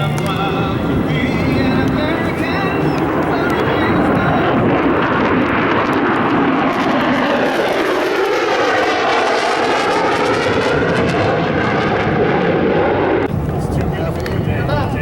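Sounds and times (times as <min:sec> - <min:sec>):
jet passing low: 0:00.0 - 0:15.0.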